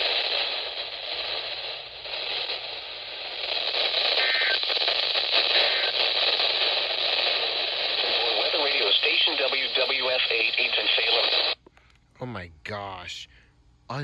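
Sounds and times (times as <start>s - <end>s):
radio static hiss: 0.0s - 11.6s
faint radio tones: 0.0s - 14.0s.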